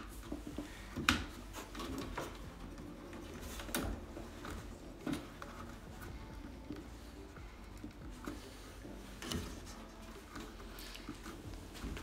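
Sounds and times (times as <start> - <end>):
faint handling noises: 0.0 - 12.0.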